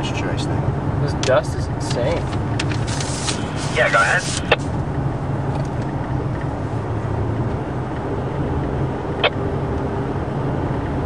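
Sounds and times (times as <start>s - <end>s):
vehicle cabin rumble: 0.0s - 11.0s
wind: 0.0s - 11.0s.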